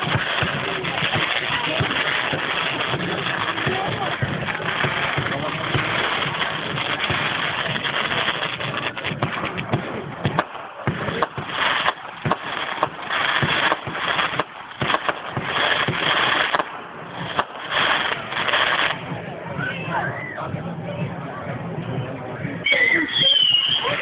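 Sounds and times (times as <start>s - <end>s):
fireworks crackle: 0.0s - 19.6s, 22.6s - 24.0s
fireworks bangs and pops: 0.0s - 20.6s, 23.2s - 24.0s.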